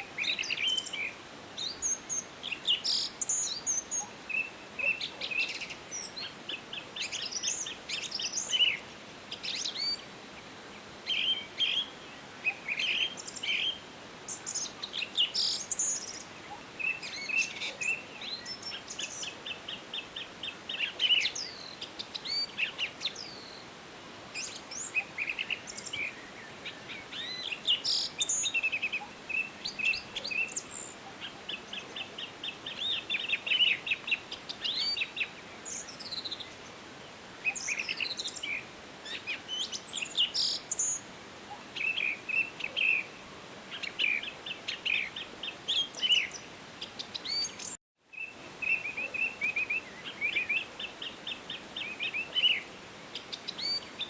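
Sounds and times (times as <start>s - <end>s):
faint steady hiss: 0.0s - 54.0s
songbirds singing: 0.0s - 54.0s.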